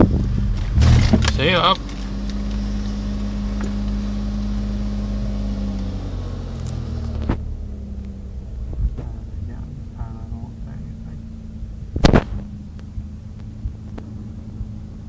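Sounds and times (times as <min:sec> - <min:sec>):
car engine pulling away: 0:00.0 - 0:15.0.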